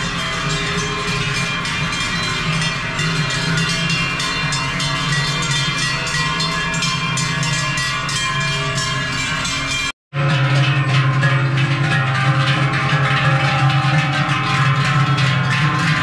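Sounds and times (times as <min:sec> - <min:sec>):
cowbells clanking: 0:00.0 - 0:16.0.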